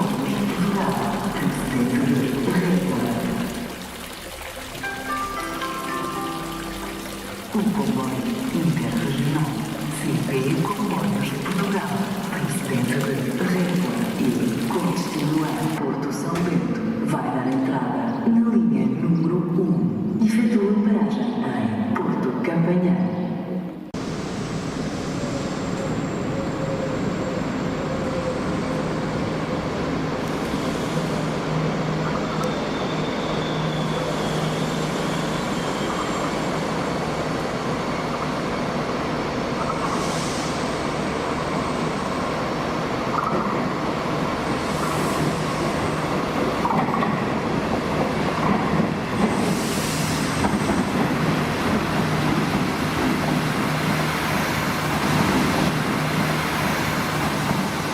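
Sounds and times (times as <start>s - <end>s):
train rumble with low hum: 0.0s - 4.9s, 6.8s - 22.3s, 23.7s - 57.9s.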